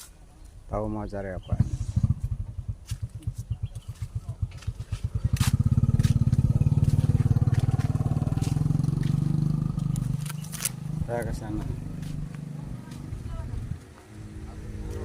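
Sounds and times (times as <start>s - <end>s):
motorcycle engine at low revs: 1.2s - 15.0s.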